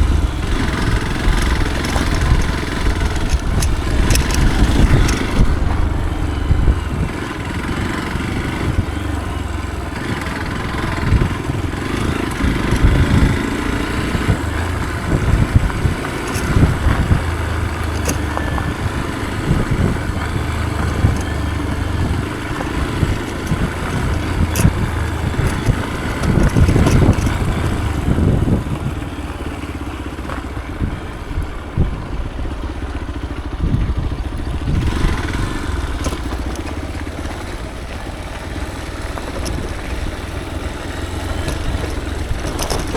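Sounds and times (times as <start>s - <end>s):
motorcycle engine: 0.0s - 42.9s.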